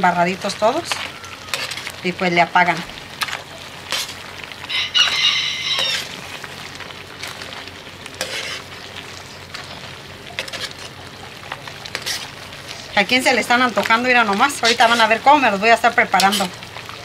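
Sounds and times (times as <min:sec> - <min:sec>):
faint sizzle: 0:00.0 - 0:17.0
spoon stirring chips in a pan: 0:00.0 - 0:17.0.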